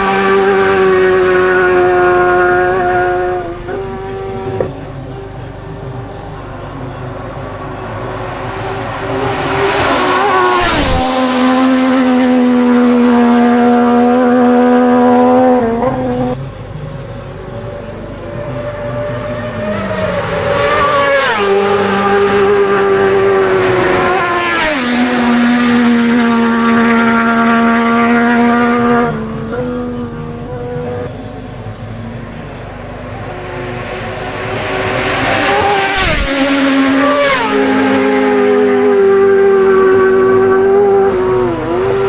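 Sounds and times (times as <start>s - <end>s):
racing motorcycles passing: 0.0s - 42.0s.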